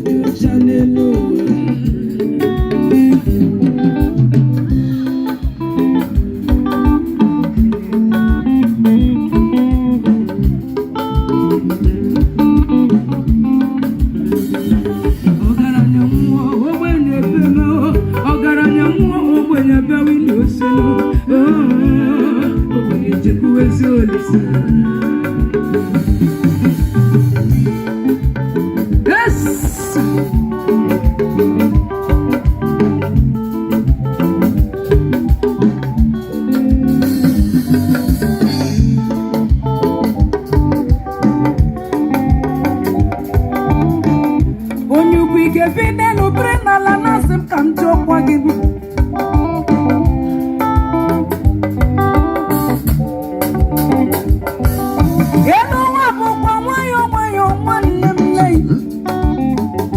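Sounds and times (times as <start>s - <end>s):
person singing: 0.0s - 10.7s, 14.3s - 50.6s, 54.7s - 59.9s
plucked guitar: 0.0s - 59.9s
steady drum beat: 0.0s - 59.9s.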